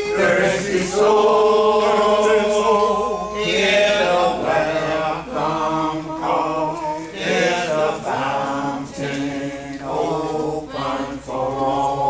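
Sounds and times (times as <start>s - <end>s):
congregation singing a hymn: 0.0s - 12.0s.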